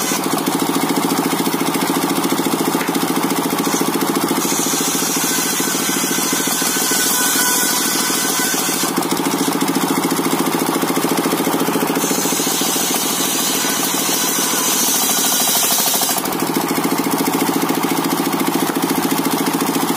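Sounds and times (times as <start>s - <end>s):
sawmill engine running: 0.0s - 19.9s.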